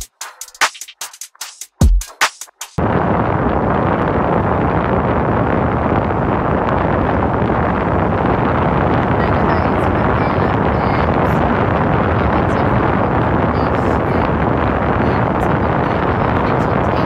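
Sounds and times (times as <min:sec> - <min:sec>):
car cabin road and wind noise: 0:02.8 - 0:17.0.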